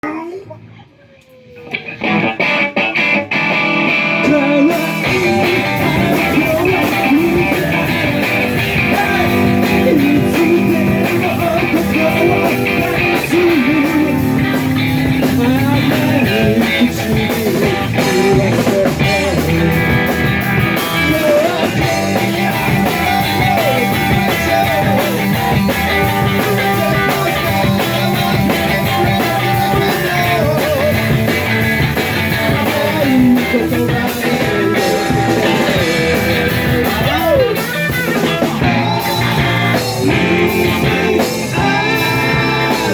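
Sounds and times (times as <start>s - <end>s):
electric guitar: 1.3s - 42.9s
rock band playing live: 1.7s - 42.9s.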